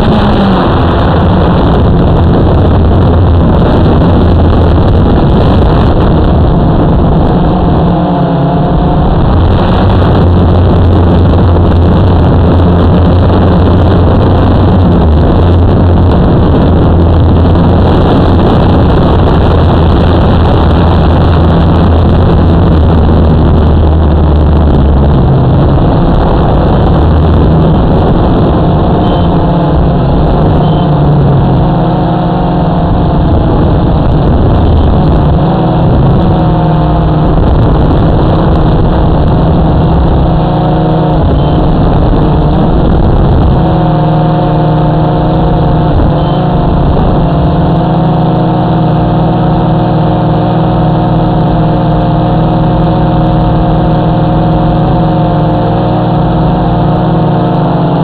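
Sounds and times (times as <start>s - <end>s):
rushing wind: 0.0s - 58.0s.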